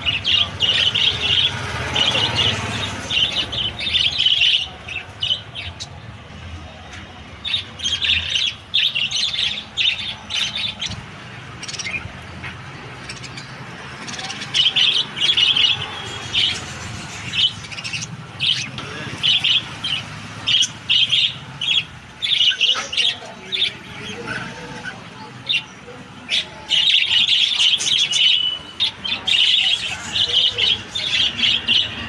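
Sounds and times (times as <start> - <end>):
parrots chirping: 0.0 - 32.0.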